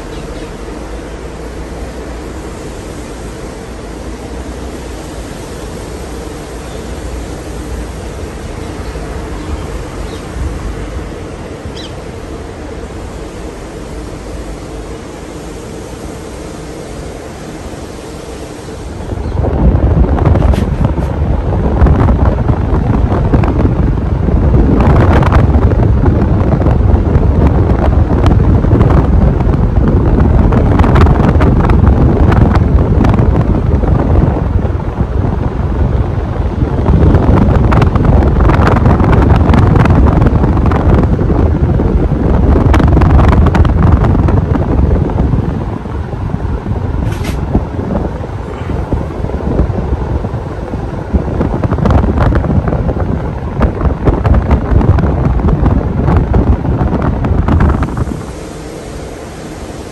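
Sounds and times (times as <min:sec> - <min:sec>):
ceiling fan wind buffeting: 0:00.0 - 0:59.9.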